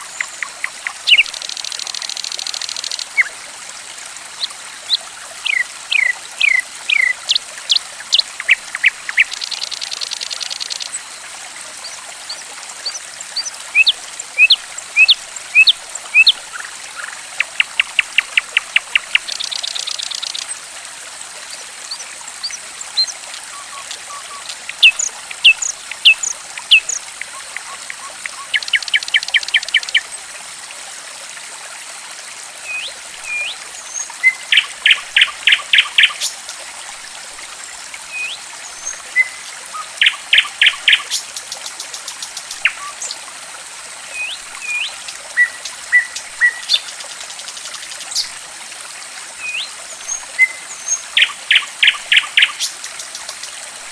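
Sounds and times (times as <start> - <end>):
trickling water: 0.0 - 53.9.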